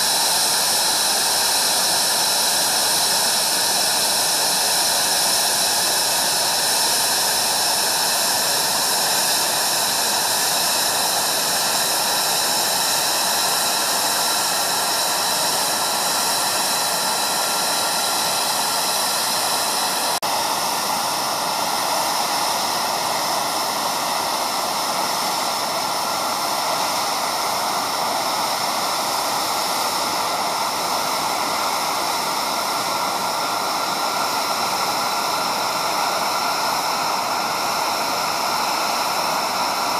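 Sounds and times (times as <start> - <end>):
jet engine rushing: 0.0 - 39.9.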